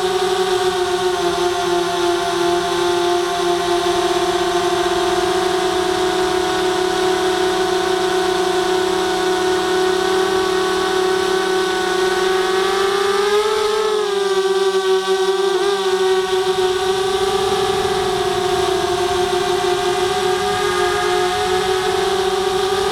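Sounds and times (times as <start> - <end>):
drone motors and propellers whining: 0.0 - 22.9.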